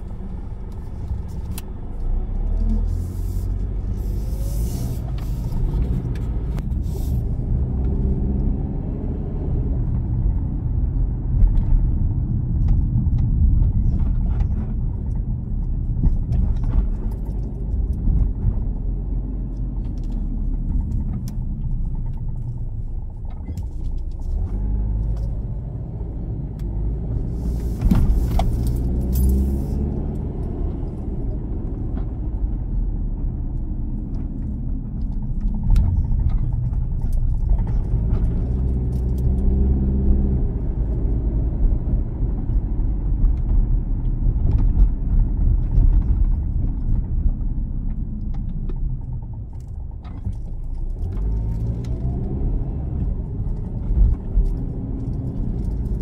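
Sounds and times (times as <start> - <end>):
car driving: 0.0 - 56.0.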